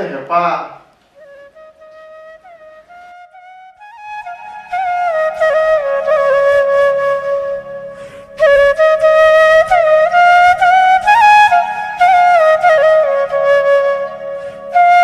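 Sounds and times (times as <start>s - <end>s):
flute melody: 1.2s - 15.0s.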